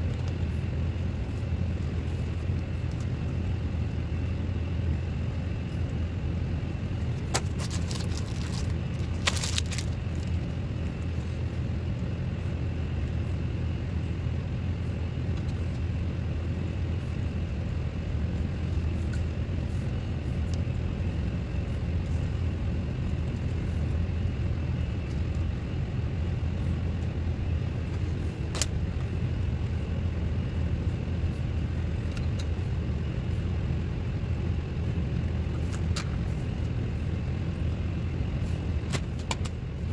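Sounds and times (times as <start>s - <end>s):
low rumbling hum: 0.0s - 39.9s.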